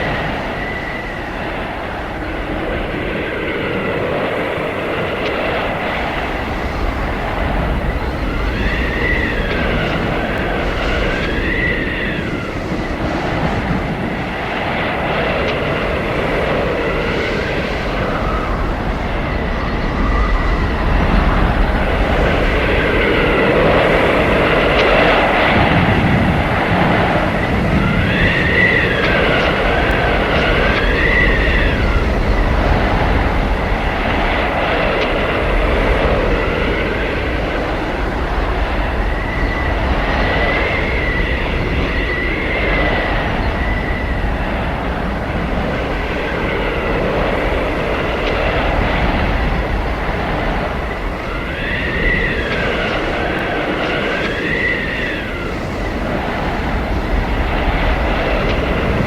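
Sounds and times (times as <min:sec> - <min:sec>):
blizzard wind howling: 0:00.0 - 0:59.0.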